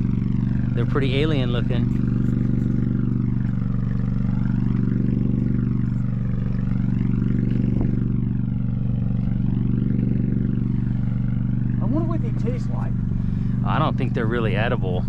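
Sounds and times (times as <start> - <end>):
boat diesel engine humming: 0.0 - 15.0.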